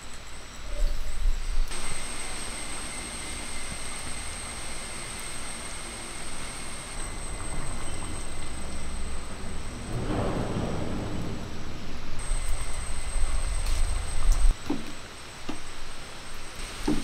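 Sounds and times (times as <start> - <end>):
thin high whine: 0.0 - 14.6.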